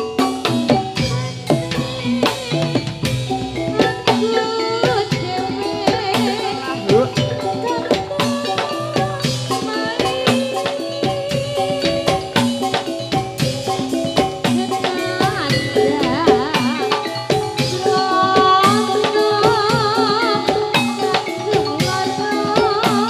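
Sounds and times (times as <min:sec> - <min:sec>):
quick drum strokes: 0:00.0 - 0:23.0
ringing tuned percussion: 0:00.0 - 0:23.0
wavering held melody: 0:00.0 - 0:23.0.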